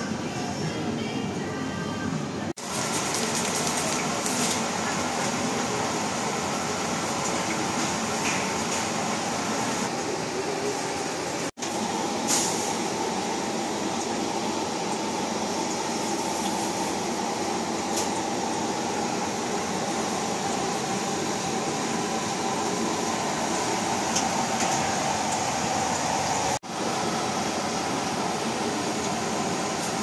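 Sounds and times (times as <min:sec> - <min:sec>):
deep-frying oil hissing: 0:02.6 - 0:30.0.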